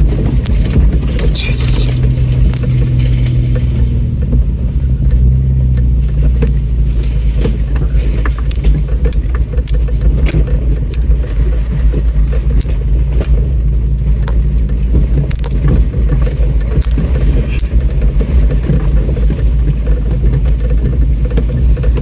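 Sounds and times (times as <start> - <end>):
off-road engine rumble: 0.0 - 22.0
body and suspension rattles: 2.6 - 22.0.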